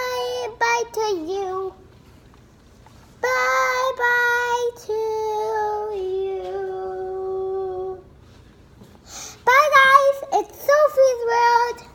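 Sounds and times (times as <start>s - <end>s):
girl singing unaccompanied: 0.0s - 2.0s, 3.1s - 8.2s, 9.1s - 11.9s.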